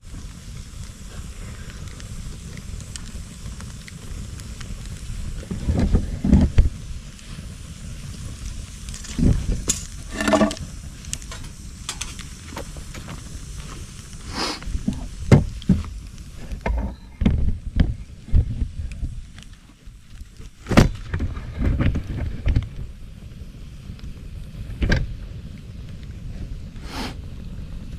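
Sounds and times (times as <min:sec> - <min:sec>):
bonfire crackling and popping: 0:00.0 - 0:27.9
low wind rumble on microphone: 0:00.0 - 0:27.9.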